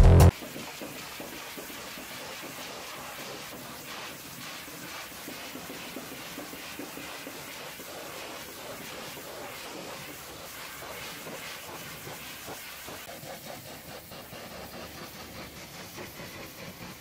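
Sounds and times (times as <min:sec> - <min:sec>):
pressure washer spraying metal: 0:00.0 - 0:17.0.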